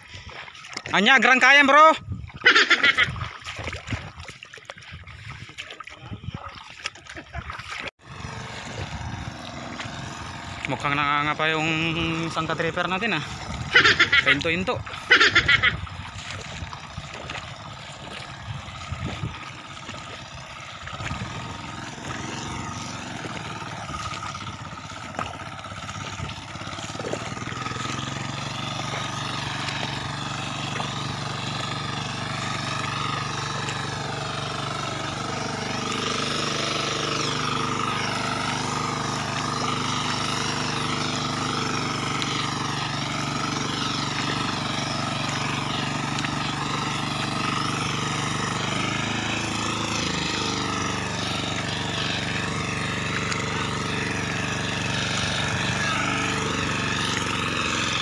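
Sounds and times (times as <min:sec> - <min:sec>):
knocks and splashes: 0:00.0 - 0:58.0
tractor engine running: 0:04.0 - 0:58.0.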